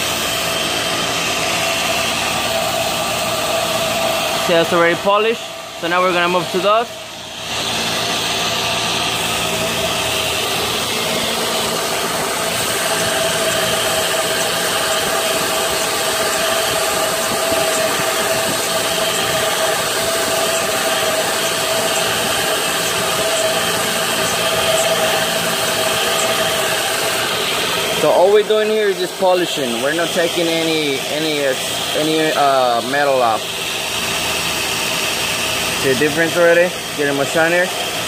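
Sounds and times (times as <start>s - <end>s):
lathe motor hum and whine: 0.0s - 38.0s.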